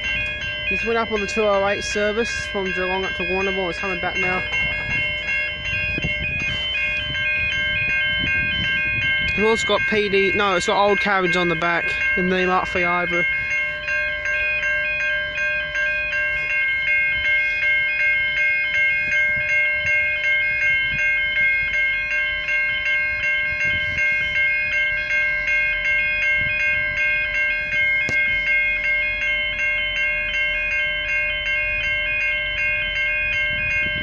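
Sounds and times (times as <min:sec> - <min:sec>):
level crossing bells ringing: 0:00.0 - 0:34.0.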